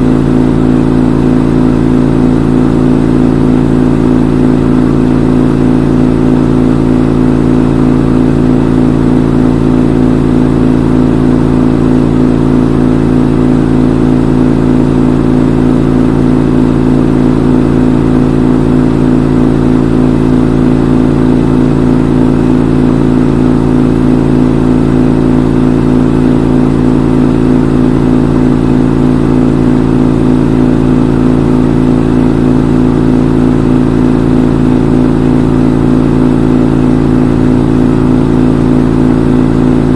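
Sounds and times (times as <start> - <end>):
washing machine drum spinning: 0.0 - 39.9.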